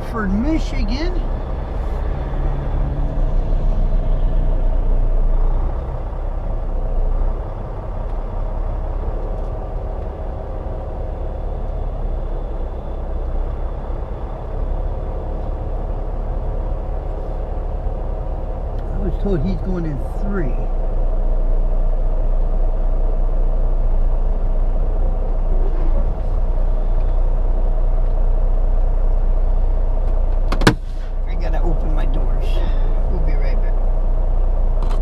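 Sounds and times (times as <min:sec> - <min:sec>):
truck diesel engine rumbling: 0:00.0 - 0:35.0.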